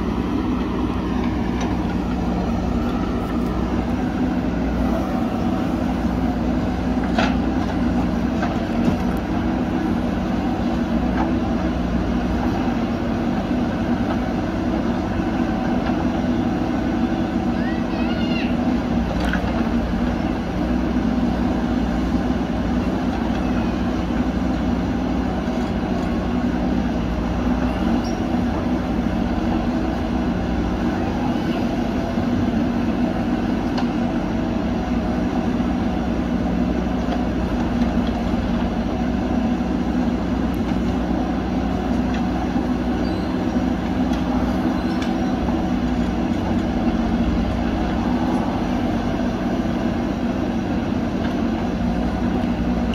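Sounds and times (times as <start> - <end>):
diesel engines running under load: 0.0 - 52.9.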